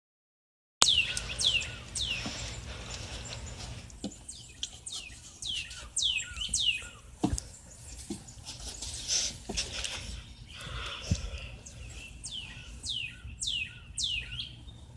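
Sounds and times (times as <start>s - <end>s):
bird chirping: 0.8s - 14.9s.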